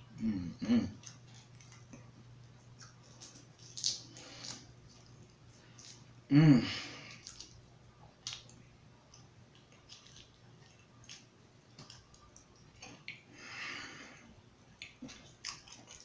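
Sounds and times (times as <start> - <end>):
person chewing with wet smacks: 0.9 - 6.2, 7.0 - 13.4, 14.6 - 16.0.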